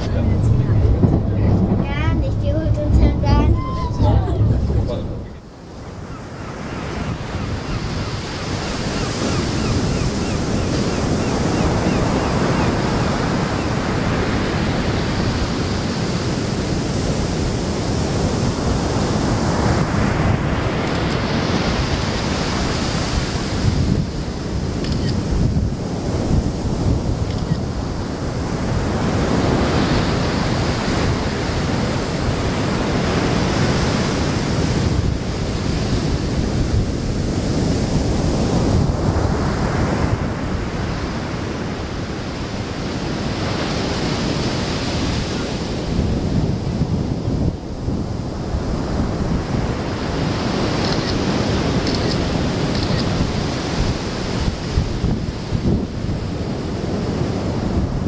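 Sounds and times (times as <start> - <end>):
surf breaking on beach: 0.0 - 58.0
wind buffeting microphone: 0.0 - 58.0.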